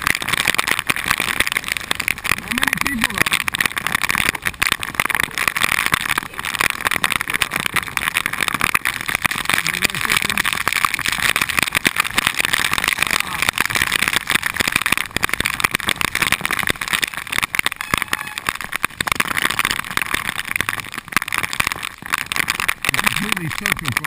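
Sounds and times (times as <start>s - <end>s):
heavy rain hitting camera: 0.0s - 24.0s.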